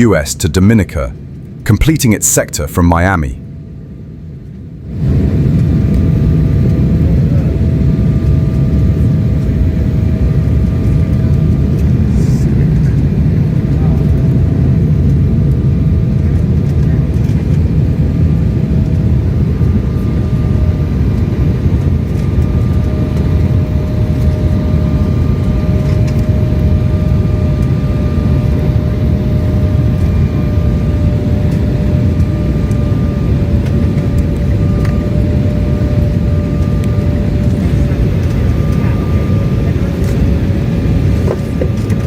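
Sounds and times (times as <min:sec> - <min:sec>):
low rumble of jet engines: 0:00.0 - 0:42.0.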